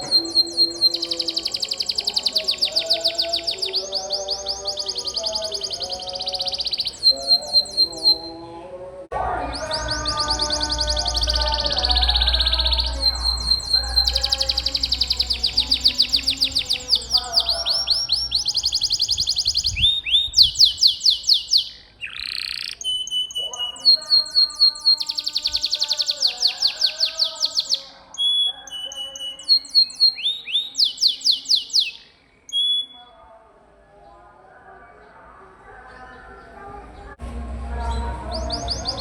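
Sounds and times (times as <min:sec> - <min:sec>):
canary singing trills: 0:00.0 - 0:08.6, 0:09.2 - 0:33.4, 0:37.7 - 0:39.0.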